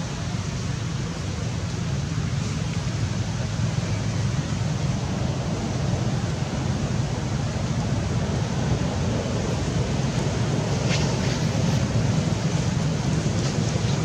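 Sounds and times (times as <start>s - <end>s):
rushing noise with low rumble: 0.0s - 14.0s.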